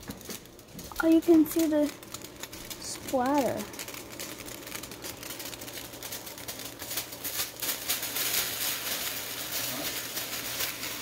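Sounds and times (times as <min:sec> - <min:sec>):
water sizzling and popping in pan: 0:00.0 - 0:11.0.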